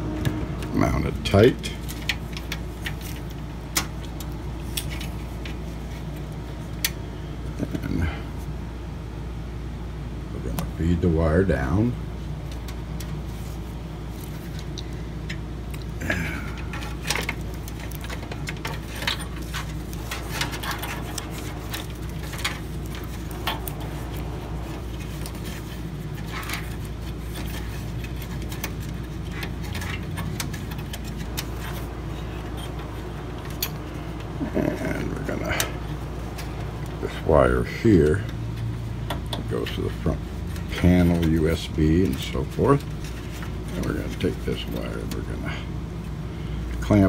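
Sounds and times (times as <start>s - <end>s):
steady low hum: 0.0s - 47.0s
cable clicks and rattles: 0.2s - 7.0s, 14.2s - 45.4s.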